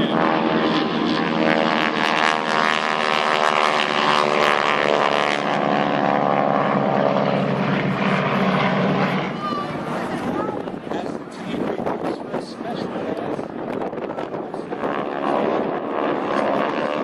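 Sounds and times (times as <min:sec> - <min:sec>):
propeller airplane passing overhead: 0:00.0 - 0:17.0.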